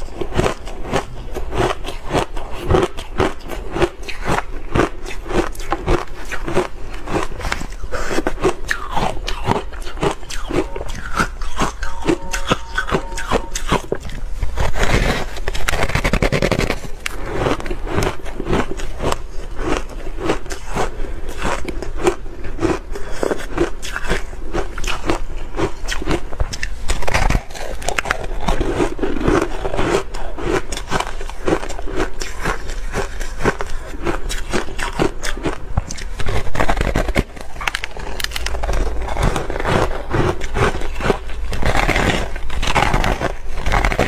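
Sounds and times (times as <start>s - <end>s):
ice crunching between teeth: 0.0s - 44.0s.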